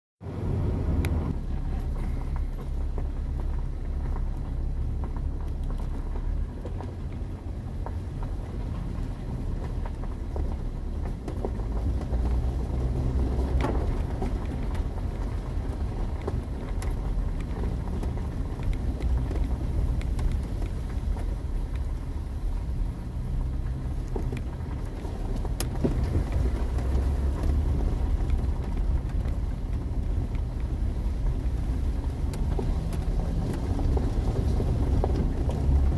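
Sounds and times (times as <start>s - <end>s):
vehicle rumbling on wet gravel: 0.2s - 35.9s.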